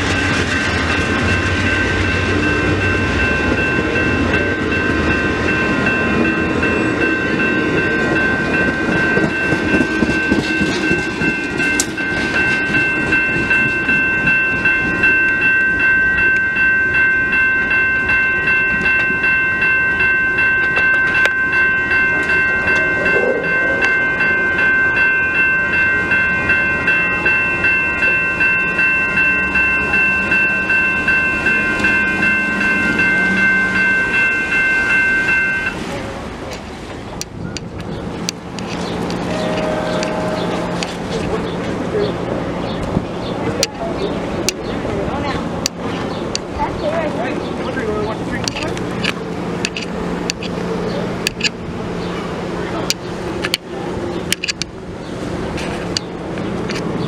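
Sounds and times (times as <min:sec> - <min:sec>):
crossing bell ringing: 0:00.0 - 0:36.2, 0:37.4 - 0:57.0
train wheels clacking on rails: 0:00.0 - 0:57.0.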